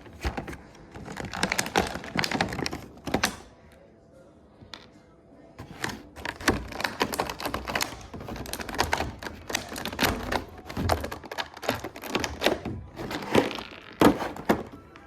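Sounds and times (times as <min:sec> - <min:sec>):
toy packaging being opened: 0:00.0 - 0:03.5, 0:05.6 - 0:15.0.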